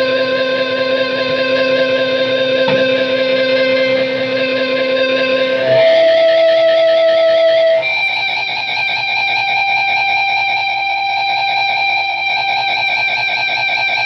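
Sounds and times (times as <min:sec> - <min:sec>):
electric guitar drone: 0:00.0 - 0:14.0.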